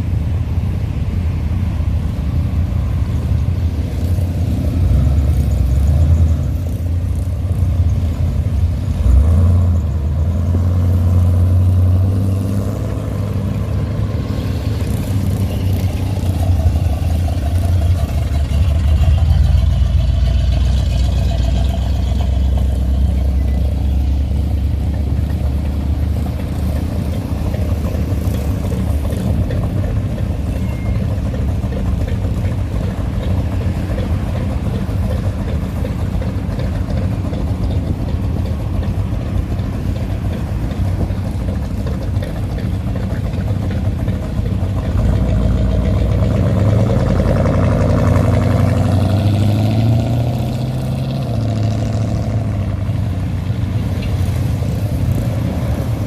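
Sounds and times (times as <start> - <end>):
car engines running at low speed: 0.0 - 56.0.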